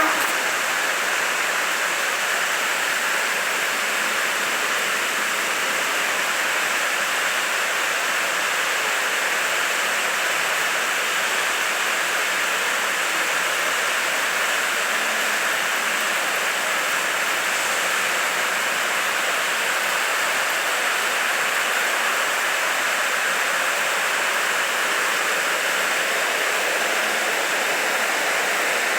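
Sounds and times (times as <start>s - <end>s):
steady hiss: 0.0s - 7.0s, 12.6s - 28.9s.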